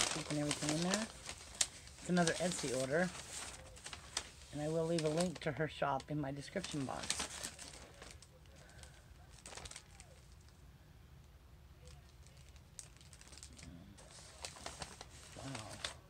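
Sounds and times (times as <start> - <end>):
tissue paper rustling: 0.0 - 10.4, 11.8 - 16.0.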